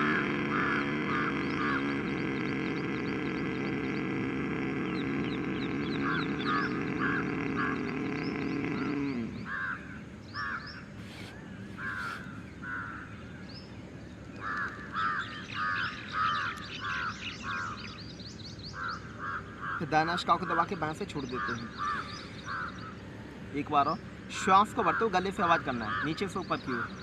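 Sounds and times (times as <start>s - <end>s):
crows cawing: 0.0s - 13.6s, 14.3s - 27.0s.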